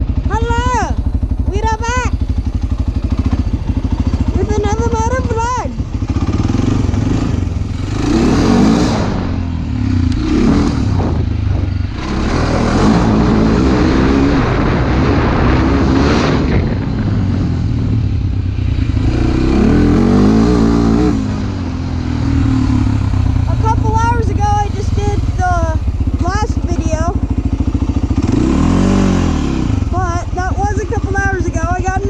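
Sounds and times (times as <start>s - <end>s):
motorcycle engine revving: 0.0s - 32.0s
wind noise: 0.0s - 32.0s.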